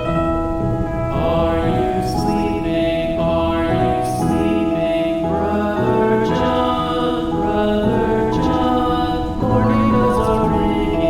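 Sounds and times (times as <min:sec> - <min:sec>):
slow calm background music: 0:00.0 - 0:11.0
soft choir-like voices: 0:00.0 - 0:11.0.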